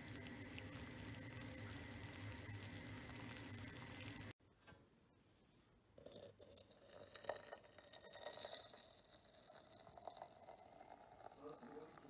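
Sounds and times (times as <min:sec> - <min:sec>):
hot water pouring into teapot: 0:00.0 - 0:04.4, 0:06.0 - 0:12.0.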